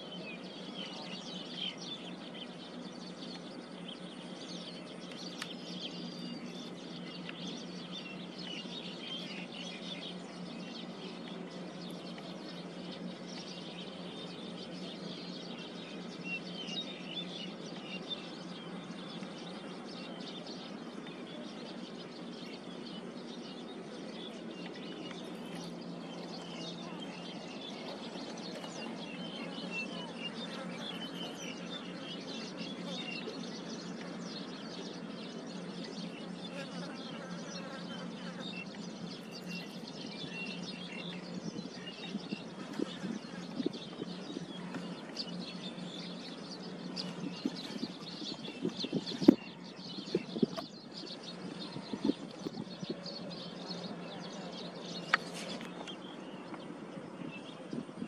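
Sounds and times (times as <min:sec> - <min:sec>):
low steady hum: 0:00.0 - 0:58.0
small birds chirping: 0:00.0 - 0:58.0.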